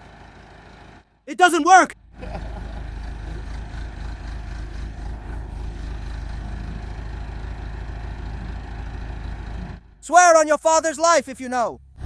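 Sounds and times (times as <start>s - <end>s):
backhoe engine idling: 0.0s - 10.8s.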